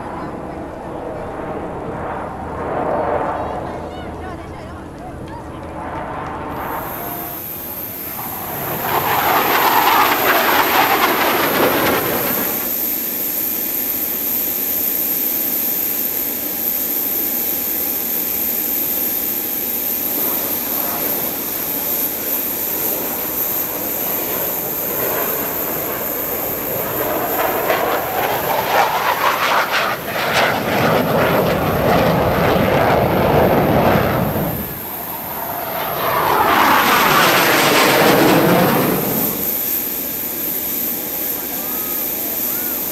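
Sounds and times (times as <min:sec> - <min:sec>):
jet engines roaring past: 0:00.0 - 0:42.9.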